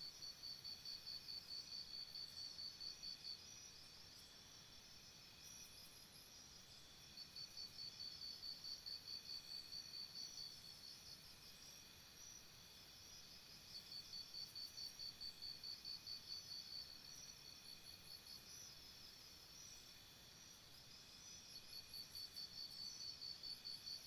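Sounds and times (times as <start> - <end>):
cricket chirping: 0.0 - 24.0
soft background crickets: 0.0 - 24.0.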